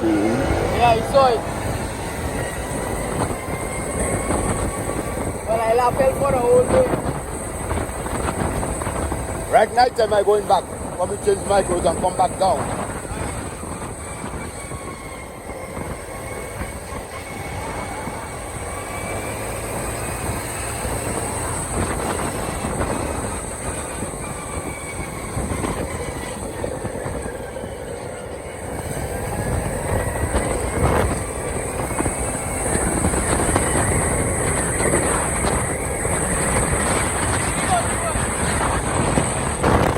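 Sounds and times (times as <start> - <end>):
vehicle running: 0.0 - 39.9.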